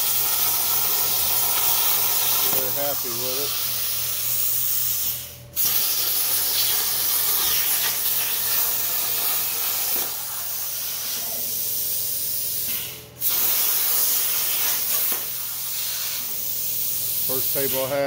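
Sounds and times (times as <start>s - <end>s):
plasma torch hissing: 0.0s - 18.0s.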